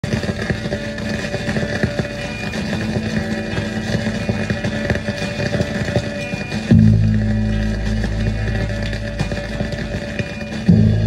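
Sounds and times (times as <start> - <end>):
droning music with held tones: 0.0 - 11.0.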